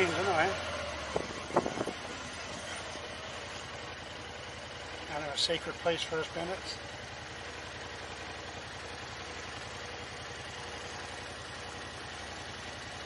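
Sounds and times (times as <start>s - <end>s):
vehicle engine running at low revs: 0.0s - 13.0s.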